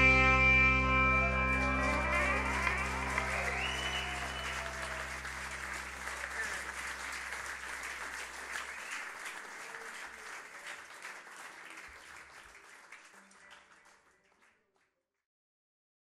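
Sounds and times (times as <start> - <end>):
audience applauding: 1.1 - 14.9.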